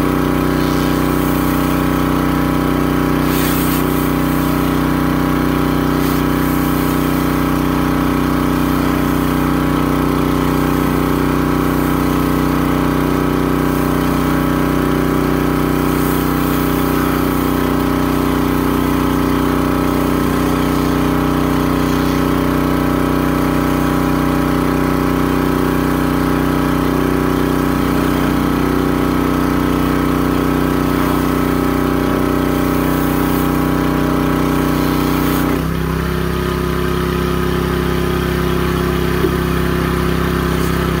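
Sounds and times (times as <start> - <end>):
pressure washer engine running: 0.0 - 41.0.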